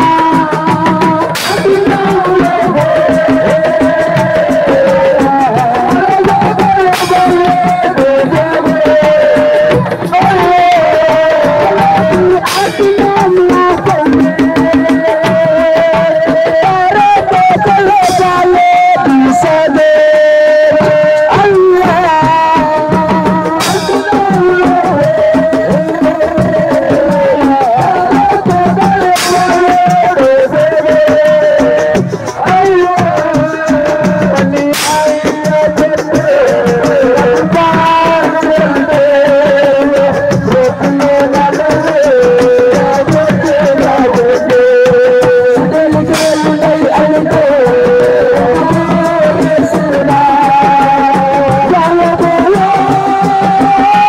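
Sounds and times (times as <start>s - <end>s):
band playing music: 0.0s - 54.0s
fast hand-drum percussion: 0.0s - 54.0s
sharp accented drum strikes: 0.0s - 54.0s
wavering lead vocal: 0.0s - 54.0s.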